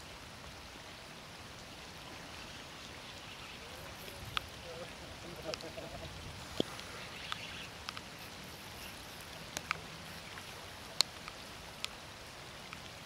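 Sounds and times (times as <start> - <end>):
light rain hiss: 0.0 - 13.0
raindrops ticking: 1.5 - 13.0.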